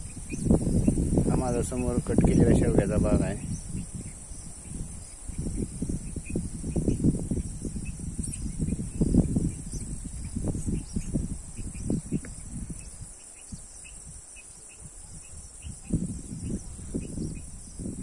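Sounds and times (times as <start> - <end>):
faint bird chirps: 0.0 - 18.0
high insect drone: 0.0 - 18.0.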